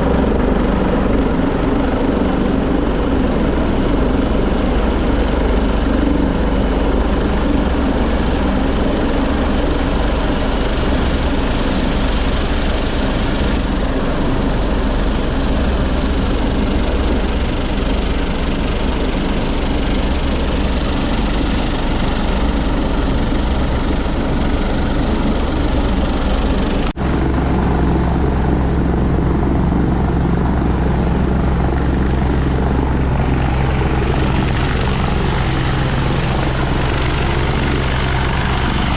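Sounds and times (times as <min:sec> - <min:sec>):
deep steady hum: 0:00.0 - 0:38.9
helicopter rotor and turbine: 0:00.0 - 0:38.9.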